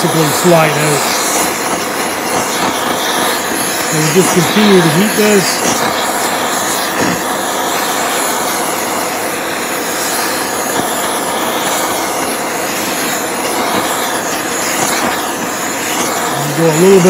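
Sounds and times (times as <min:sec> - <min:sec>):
gas torch flame rushing: 0:00.0 - 0:17.0.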